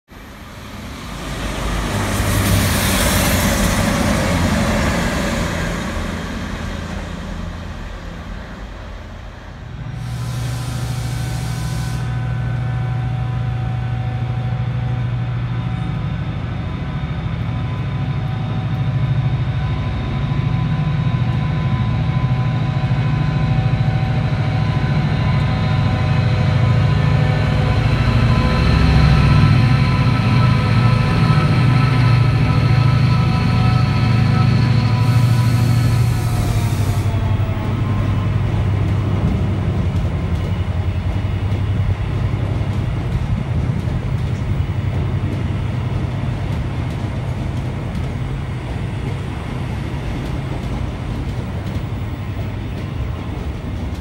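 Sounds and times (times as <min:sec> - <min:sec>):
diesel locomotive engine hum: 0:00.1 - 0:54.0
train rushing past: 0:00.1 - 0:54.0.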